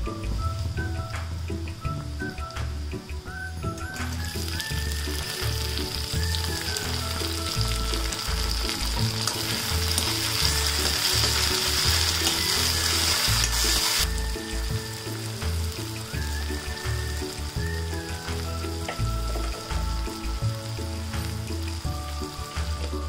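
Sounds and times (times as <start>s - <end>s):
hot oil sizzling in wok: 0.0s - 23.0s.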